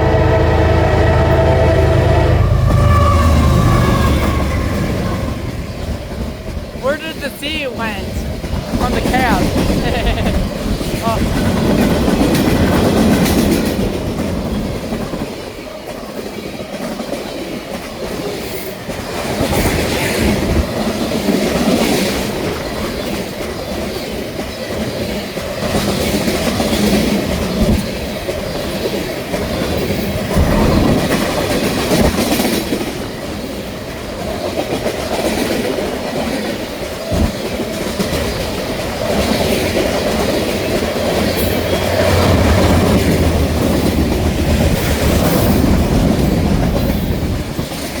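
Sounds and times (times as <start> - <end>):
freight train rumbling past: 0.0 - 48.0.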